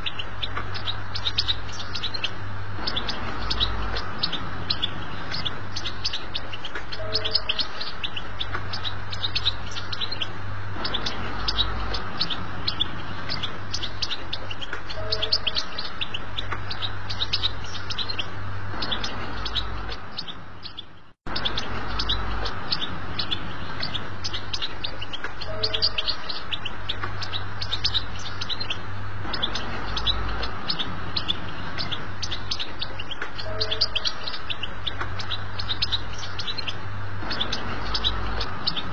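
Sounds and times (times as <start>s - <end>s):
goldfinch singing: 0.0s - 38.9s
steady low hum: 0.0s - 38.9s.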